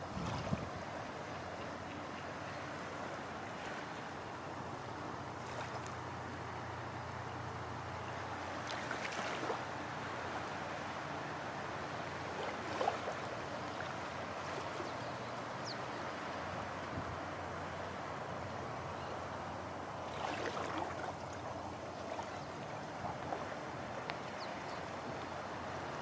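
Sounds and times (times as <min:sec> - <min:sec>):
small waves on sandy beach: 0:00.0 - 0:26.0.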